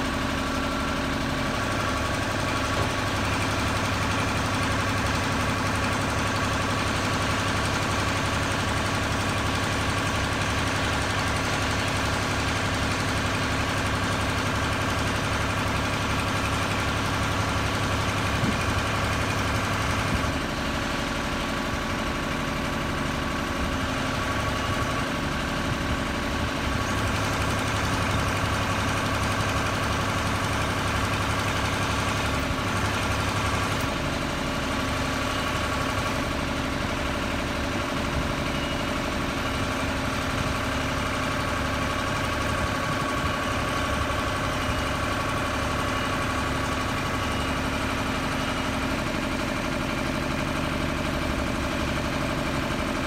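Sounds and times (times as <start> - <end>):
boom lift engine running: 0.0 - 53.0.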